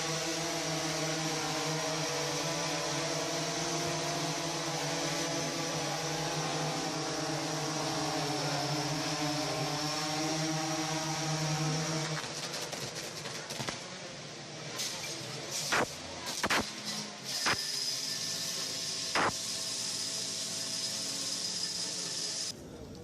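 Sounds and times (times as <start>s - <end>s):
drone propellers buzzing: 0.0s - 22.5s.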